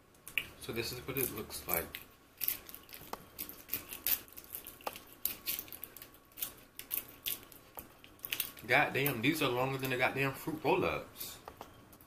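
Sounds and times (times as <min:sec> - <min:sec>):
fruit roll crinkling: 0:01.0 - 0:11.3.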